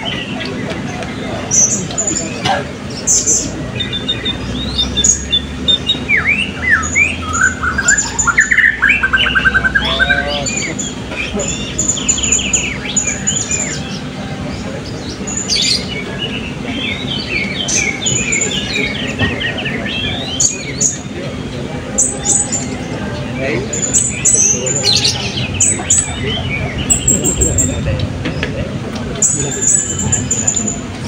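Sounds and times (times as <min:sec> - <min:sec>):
parrots chirping and trilling: 0:00.0 - 0:31.0.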